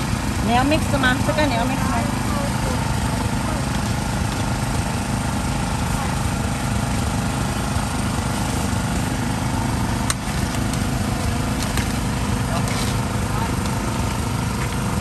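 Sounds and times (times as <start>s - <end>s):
steady engine drone: 0.0s - 15.0s.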